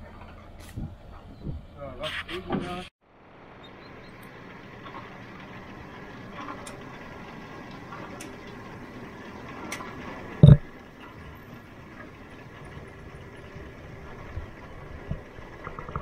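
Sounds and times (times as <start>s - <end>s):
harvester machinery running: 3.0s - 16.0s.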